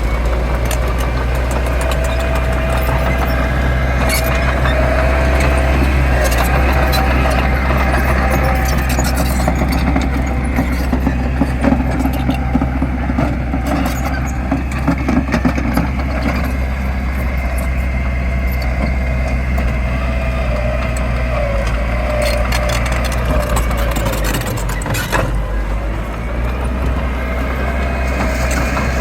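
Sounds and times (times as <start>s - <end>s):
clanks and knocks: 0.0s - 17.8s, 20.8s - 29.0s
heavy diesel engine running: 0.0s - 29.0s.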